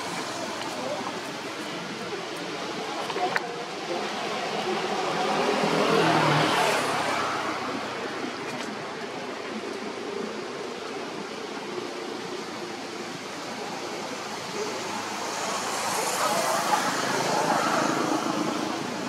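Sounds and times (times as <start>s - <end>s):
steady outdoor background hiss: 0.0s - 19.0s.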